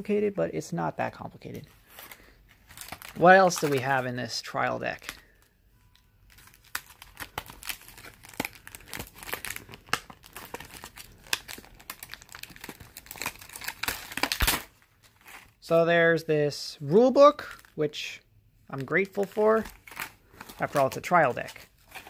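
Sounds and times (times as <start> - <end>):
plastic packaging crinkling: 1.4 - 15.7, 17.4 - 17.8, 18.7 - 22.0.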